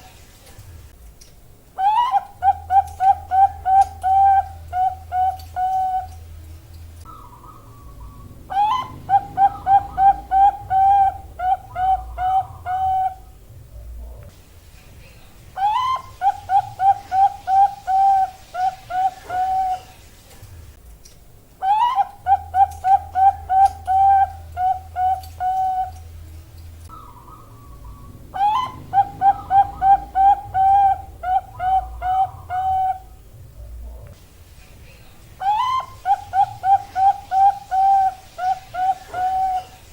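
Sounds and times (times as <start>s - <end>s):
dove cooing: 1.8s - 6.3s, 7.0s - 14.2s, 15.6s - 20.0s, 21.6s - 26.2s, 26.9s - 34.1s, 35.4s - 39.9s.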